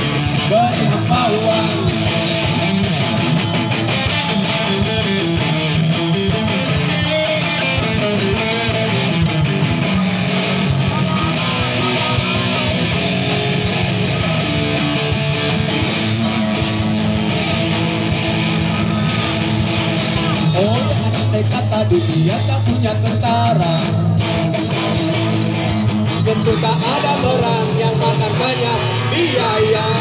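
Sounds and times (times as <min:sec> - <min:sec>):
rock band playing instrumental: 0:00.0 - 0:30.0.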